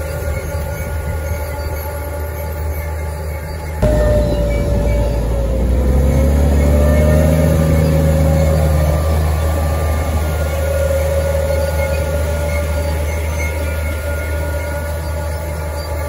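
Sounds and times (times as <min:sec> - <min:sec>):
high whine: 0:00.0 - 0:16.0
tractor diesel engine running: 0:00.0 - 0:16.0.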